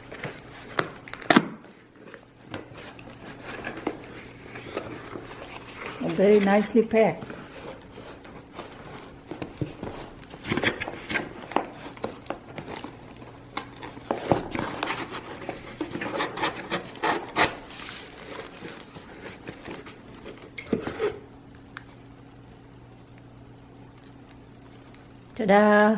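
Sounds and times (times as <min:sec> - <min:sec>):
packaging rustling and crinkling: 0:00.0 - 0:25.4.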